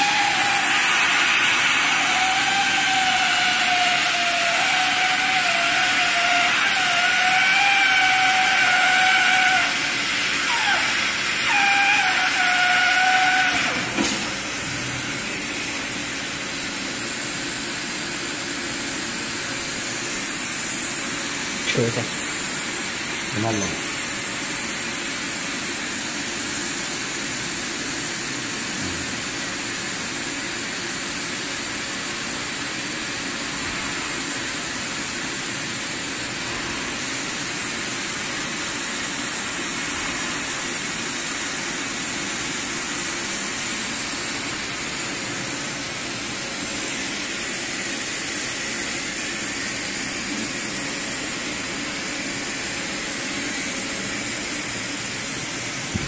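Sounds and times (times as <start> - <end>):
hot air blower hissing: 0.0 - 56.0.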